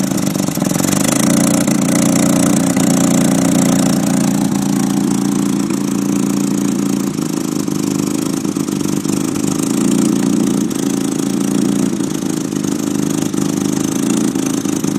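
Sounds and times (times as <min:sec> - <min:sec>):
car engine idling roughly: 0:00.0 - 0:14.9
exhaust leak puffing: 0:00.0 - 0:14.9.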